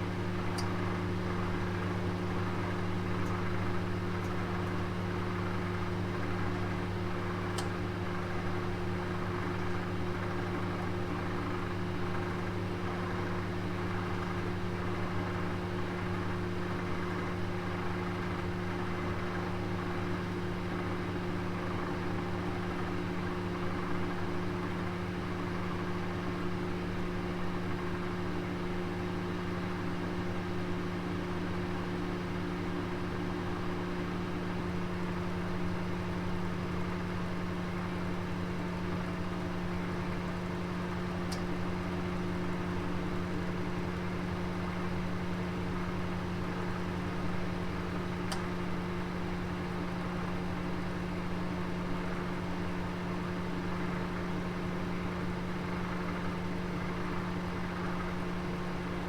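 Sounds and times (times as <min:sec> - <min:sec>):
oven humming and whirring: 0:00.0 - 0:59.0.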